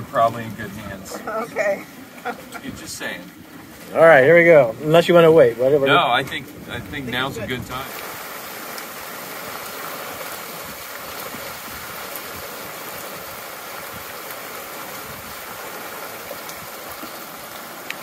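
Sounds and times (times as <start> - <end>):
boat motor droning: 0.0 - 18.0.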